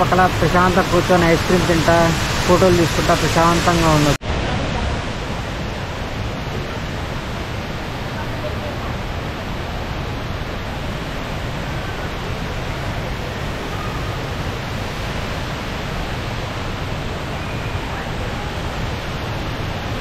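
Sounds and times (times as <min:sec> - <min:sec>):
indoor waterfall rushing: 0:00.0 - 0:20.0.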